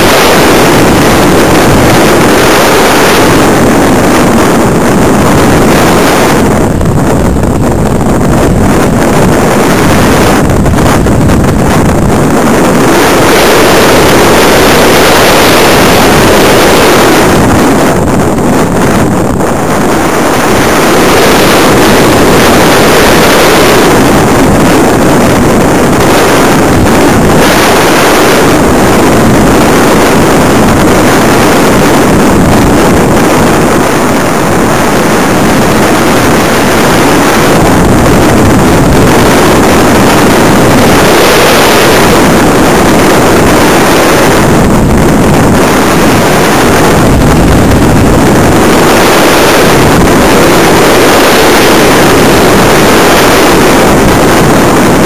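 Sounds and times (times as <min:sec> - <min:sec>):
airflow rushing over camera: 0:00.0 - 0:55.0.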